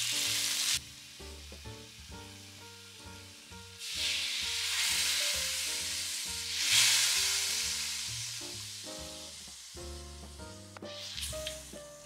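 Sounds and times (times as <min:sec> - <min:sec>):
liquid sizzling in a hot wok: 0:00.0 - 0:12.0
soft background music: 0:00.0 - 0:12.0.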